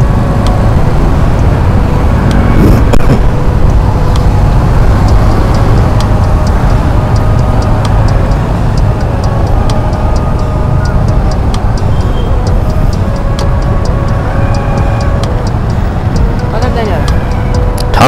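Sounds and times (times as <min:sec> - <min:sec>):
motorcycle engine rumble: 0:00.0 - 0:16.6
wind on microphone: 0:00.0 - 0:17.9.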